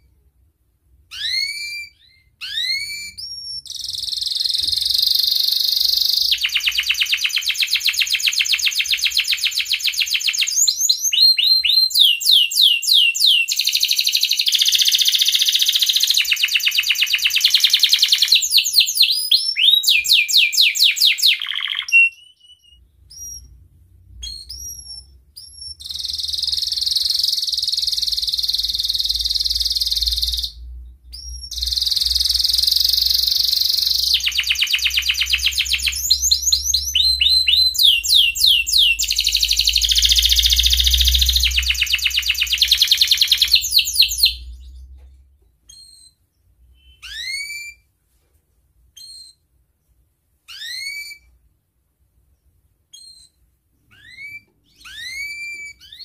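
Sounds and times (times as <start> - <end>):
canary chirps: 0.0 - 48.0, 48.8 - 56.0
canary singing trills: 1.1 - 23.6, 24.2 - 45.0, 45.6 - 47.8, 49.0 - 49.5, 50.5 - 51.4, 52.4 - 56.0.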